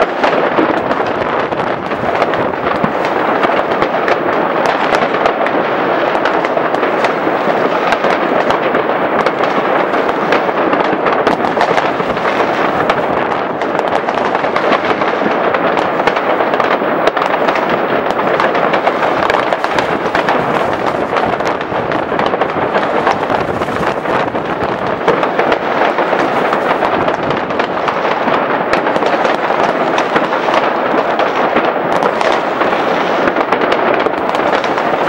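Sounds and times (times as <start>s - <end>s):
firecrackers crackling: 0.0s - 35.0s.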